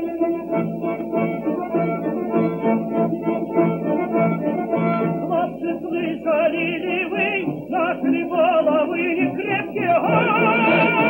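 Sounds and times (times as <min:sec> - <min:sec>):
background music with vibrato melody: 0:00.0 - 0:11.0.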